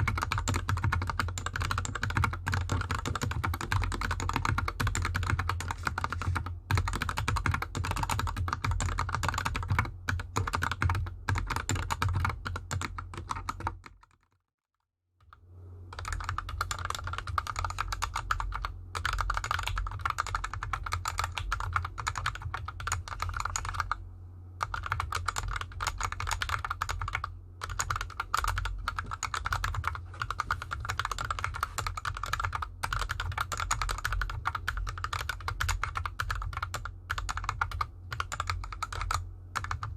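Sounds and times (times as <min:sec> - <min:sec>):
fast typing on mechanical keyboard: 0:00.0 - 0:14.4, 0:15.9 - 0:24.0, 0:24.6 - 0:39.9.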